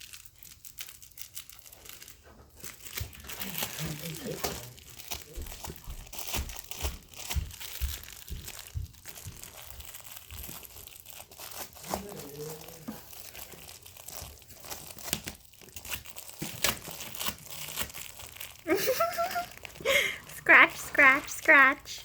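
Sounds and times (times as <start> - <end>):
pet toy crinkling: 0.0 - 22.0.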